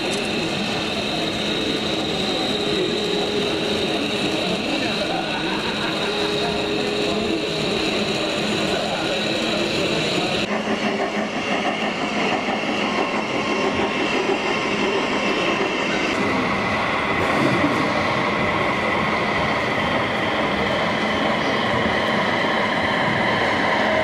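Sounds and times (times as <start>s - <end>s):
model train rolling on track: 0.0s - 24.0s.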